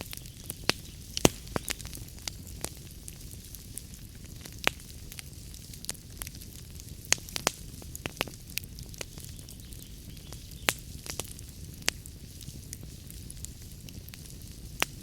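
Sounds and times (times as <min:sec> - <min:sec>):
low rumble of flames: 0:00.0 - 0:15.0
wood fire popping and snapping: 0:00.0 - 0:15.0.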